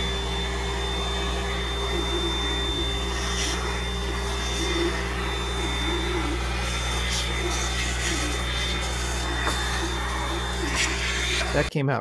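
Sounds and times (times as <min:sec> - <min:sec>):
shop vacuum whining: 0:00.0 - 0:11.7.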